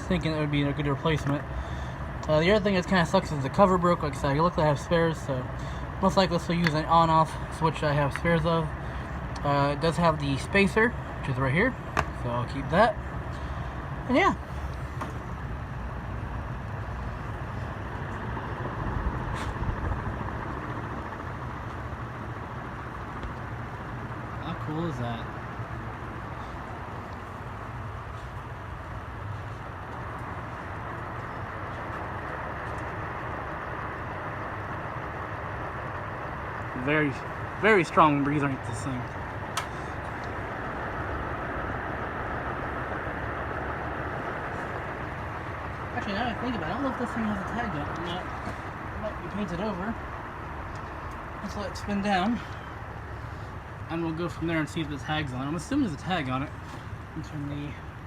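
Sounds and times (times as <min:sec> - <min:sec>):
ceiling fan running: 0:00.0 - 0:58.0.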